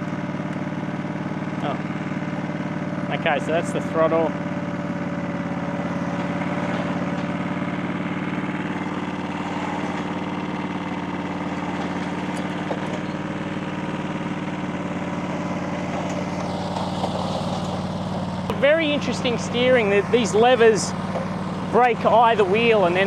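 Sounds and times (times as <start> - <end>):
mower engine running: 0.0 - 23.0.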